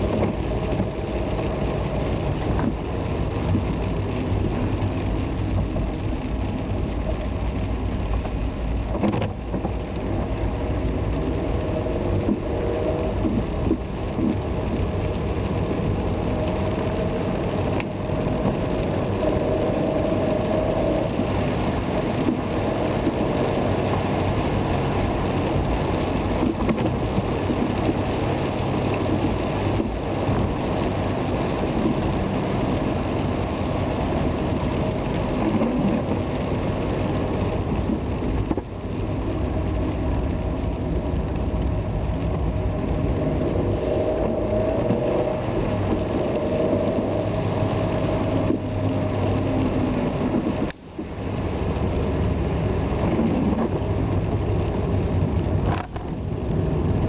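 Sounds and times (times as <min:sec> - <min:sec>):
car engine: 0:00.0 - 0:57.0
rain: 0:00.0 - 0:57.0.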